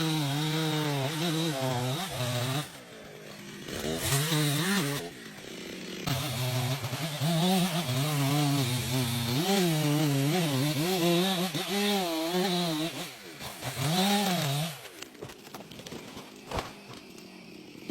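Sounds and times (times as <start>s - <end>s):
chainsaw cutting: 0.0s - 17.9s.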